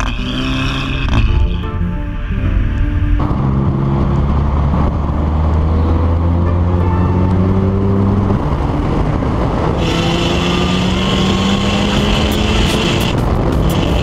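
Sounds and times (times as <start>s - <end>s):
car engine at full throttle: 0.0s - 14.0s
wind and road roar: 0.0s - 14.0s.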